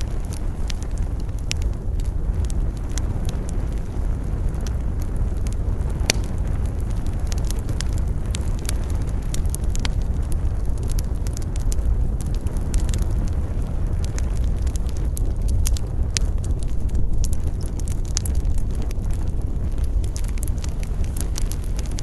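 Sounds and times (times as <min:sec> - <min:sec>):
campfire crackling and snapping: 0:00.0 - 0:22.0
low rumble of wind: 0:00.0 - 0:22.0.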